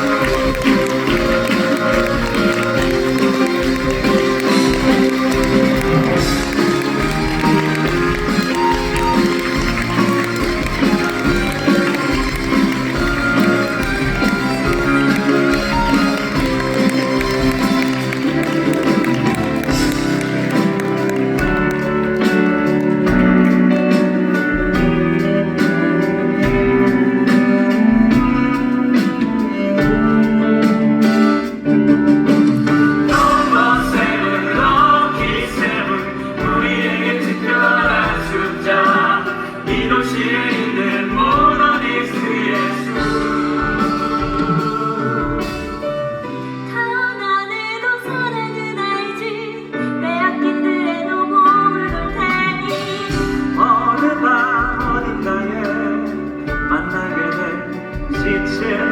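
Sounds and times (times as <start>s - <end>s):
performer singing: 0.0s - 30.5s, 32.8s - 58.9s
band playing stage music: 0.0s - 47.3s, 48.0s - 58.9s.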